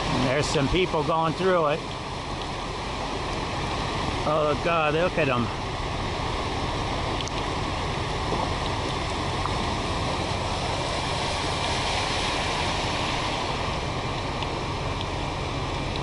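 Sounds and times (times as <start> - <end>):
flood water rushing: 0.0 - 16.0.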